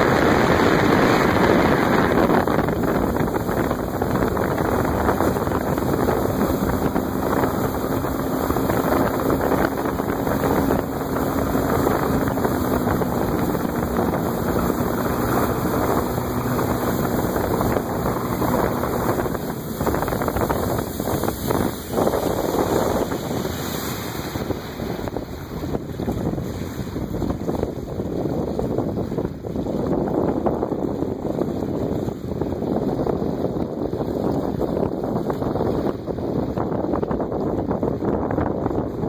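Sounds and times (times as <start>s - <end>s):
rush of wind and water: 0.0s - 39.0s
wind buffeting microphone: 0.0s - 39.0s.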